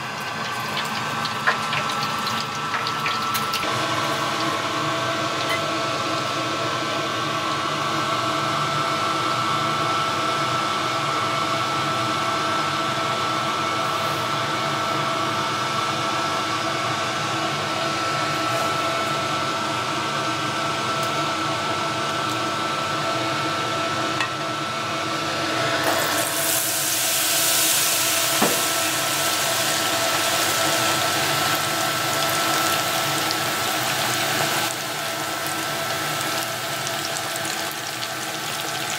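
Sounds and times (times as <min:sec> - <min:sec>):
deep-frying sizzle: 0:00.0 - 0:10.8, 0:11.6 - 0:38.9
mechanical hum with hiss: 0:00.0 - 0:38.9.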